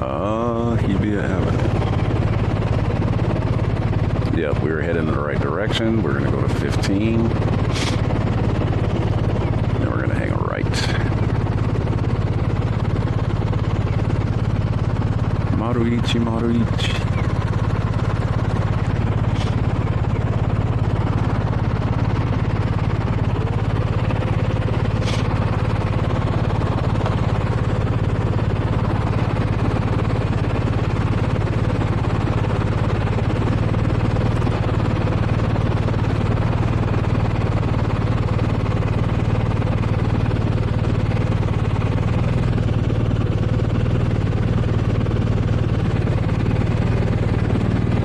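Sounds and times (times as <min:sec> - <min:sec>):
motorcycle engine hum: 0:00.0 - 0:48.0.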